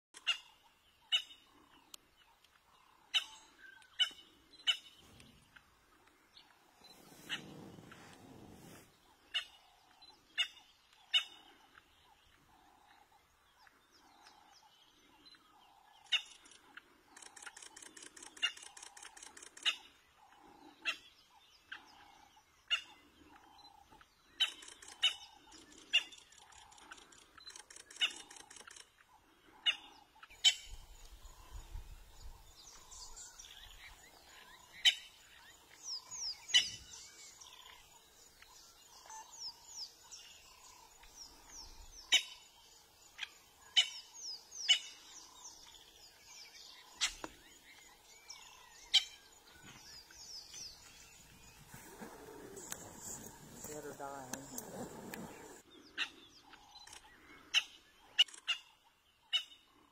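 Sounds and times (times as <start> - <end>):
bird chirps: 0.2 - 59.9.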